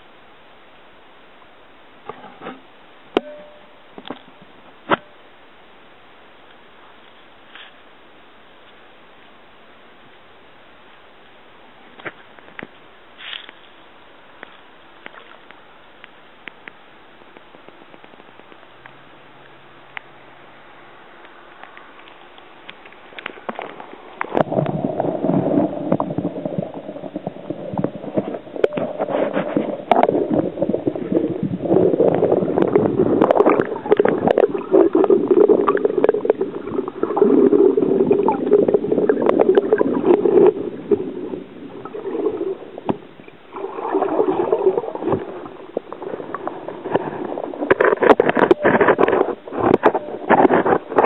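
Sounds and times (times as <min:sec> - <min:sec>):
muffled water churning: 0:01.9 - 0:51.0.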